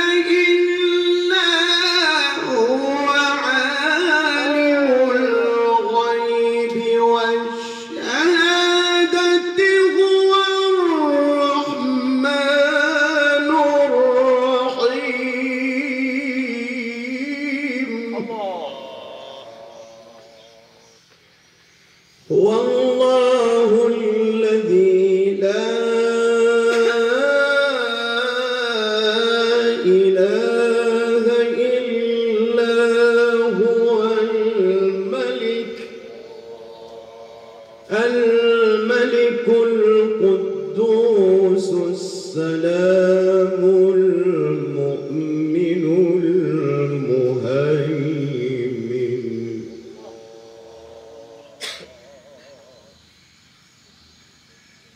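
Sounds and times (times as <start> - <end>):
man reciting melodically: 0.0 - 20.9, 22.2 - 53.0.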